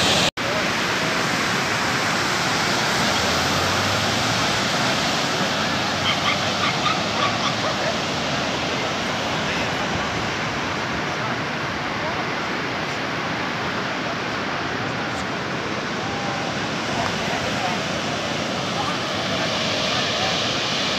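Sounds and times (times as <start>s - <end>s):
surf breaking on beach: 0.0s - 20.9s.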